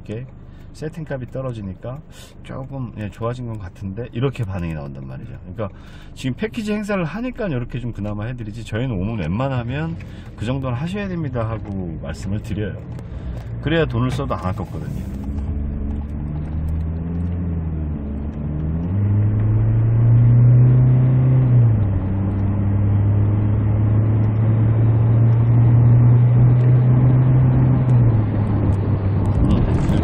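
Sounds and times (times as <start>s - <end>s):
diesel engine from inside cab: 0.0s - 30.0s.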